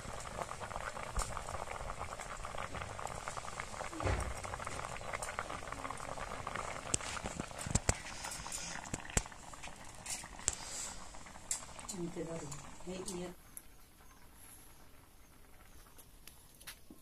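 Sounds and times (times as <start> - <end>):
oil popping: 0.0 - 13.7
eggs frying in hot oil: 0.0 - 17.0.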